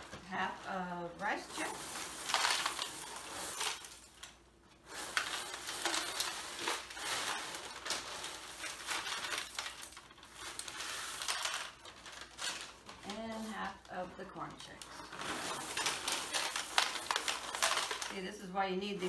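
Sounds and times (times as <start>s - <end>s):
cereal pouring into foil pan: 0.0s - 14.0s, 14.8s - 18.6s.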